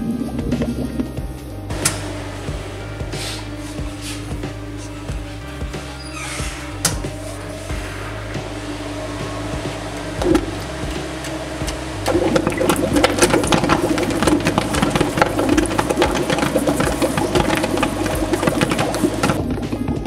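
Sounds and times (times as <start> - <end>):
steady hum: 0.0 - 20.0
underwater welding arc crackling: 0.0 - 20.0.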